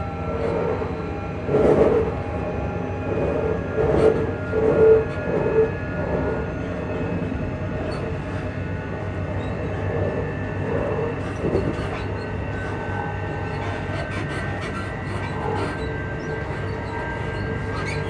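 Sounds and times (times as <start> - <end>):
electric train motors humming: 0.0 - 18.0
train running rumble: 0.0 - 18.0.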